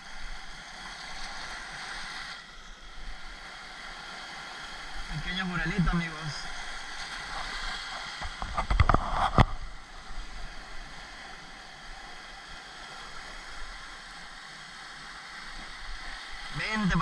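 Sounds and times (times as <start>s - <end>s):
surf breaking over rocks: 3.0s - 17.0s.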